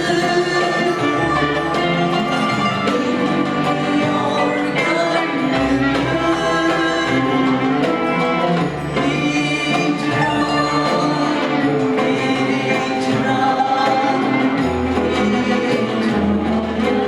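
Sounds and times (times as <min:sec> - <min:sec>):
solo singing voice: 0:00.0 - 0:17.0.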